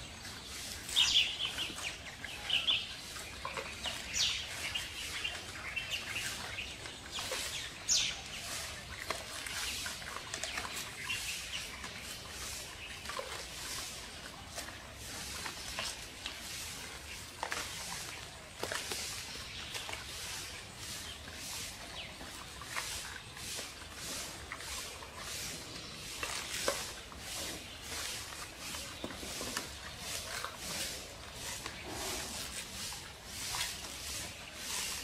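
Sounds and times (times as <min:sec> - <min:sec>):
pandas crunching bamboo: 0:03.3 - 0:35.0.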